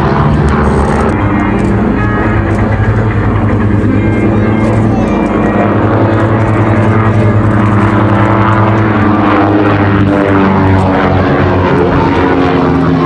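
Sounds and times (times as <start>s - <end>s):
twin propeller aircraft droning overhead: 0.0s - 13.0s.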